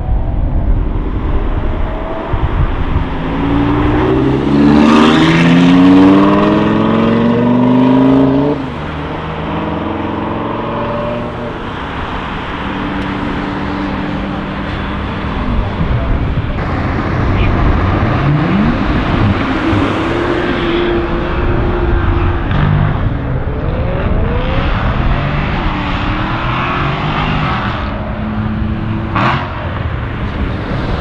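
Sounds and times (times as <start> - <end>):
sports car accelerating: 0.1 - 31.0.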